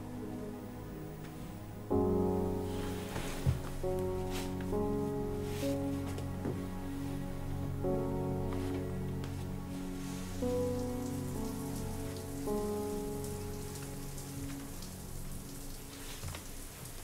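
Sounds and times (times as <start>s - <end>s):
soft film score chords: 0.0s - 16.7s
rain-like hiss: 0.0s - 17.0s.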